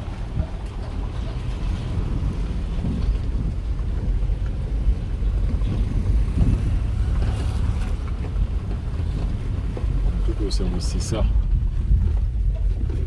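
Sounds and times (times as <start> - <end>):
vehicle road rumble: 0.0 - 13.0
wind buffeting microphone: 0.0 - 13.0.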